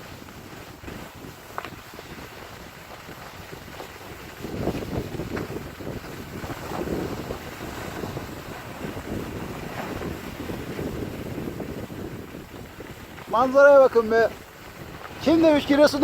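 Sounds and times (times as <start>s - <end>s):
skis sliding over snow: 0.0s - 16.0s
wind rushing over microphone: 0.0s - 16.0s.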